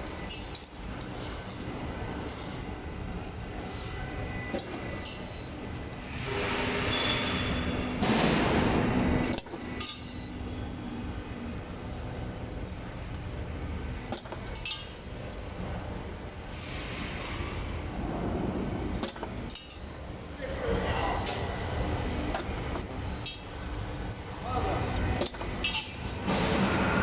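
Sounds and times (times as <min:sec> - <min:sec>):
machine mechanical hum and whine: 0:00.0 - 0:27.0.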